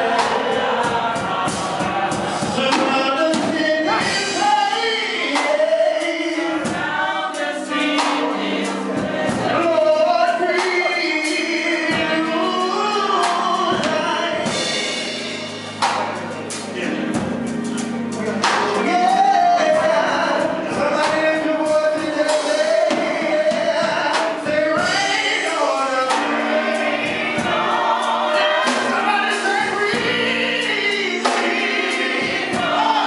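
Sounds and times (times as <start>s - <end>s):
man singing gospel through microphone: 0.0s - 15.9s, 16.6s - 33.0s
live band with keyboard and drums: 0.0s - 33.0s.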